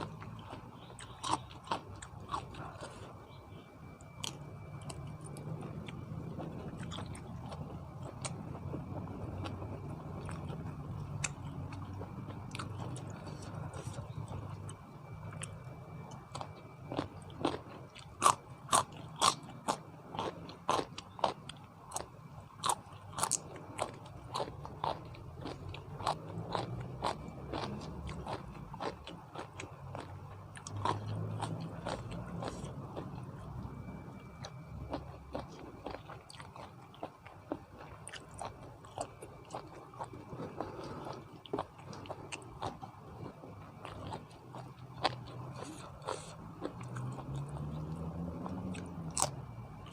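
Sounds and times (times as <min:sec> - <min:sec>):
crunchy food chewing: 0:00.0 - 0:49.9.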